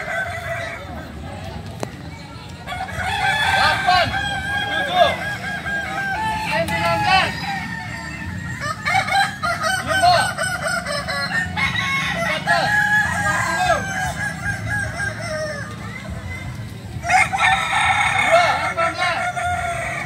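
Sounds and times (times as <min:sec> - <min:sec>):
roosters crowing: 0:00.0 - 0:01.6, 0:02.5 - 0:20.0.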